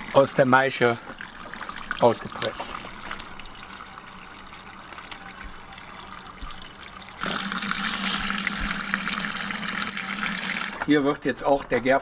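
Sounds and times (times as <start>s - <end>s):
juice trickling into metal strainer: 0.0s - 11.1s.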